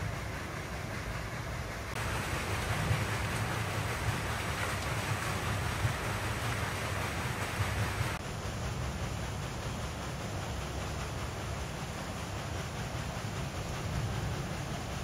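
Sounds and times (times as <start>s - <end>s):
water rushing through channel: 0.0s - 15.0s.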